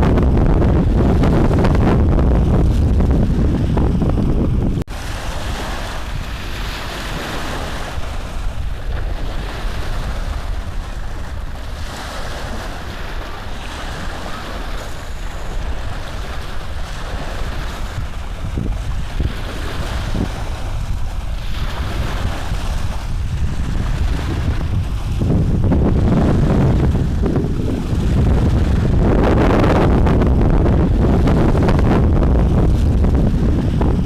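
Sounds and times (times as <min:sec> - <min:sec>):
steady rushing noise: 0:00.0 - 0:34.0.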